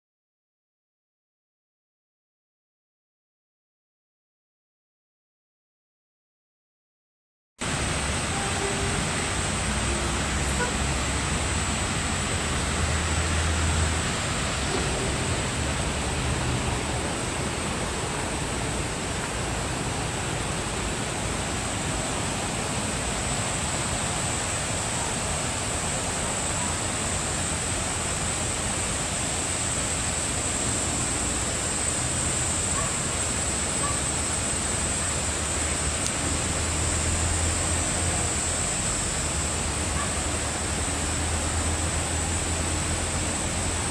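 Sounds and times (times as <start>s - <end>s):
steady rushing noise with hiss: 7.6s - 43.9s.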